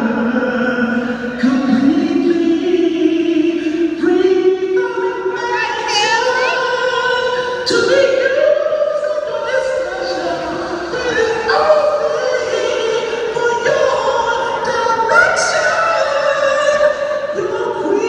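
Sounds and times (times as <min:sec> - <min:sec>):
choir singing over loudspeakers: 0:00.0 - 0:18.0.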